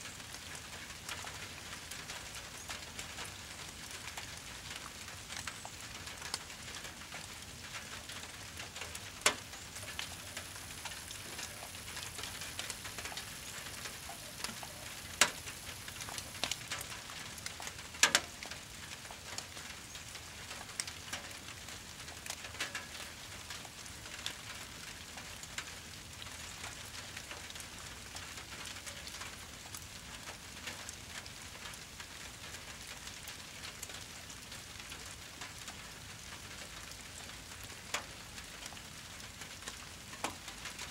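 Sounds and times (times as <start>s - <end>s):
fire crackling: 0.0s - 40.9s
fire hissing in rain: 0.0s - 40.9s.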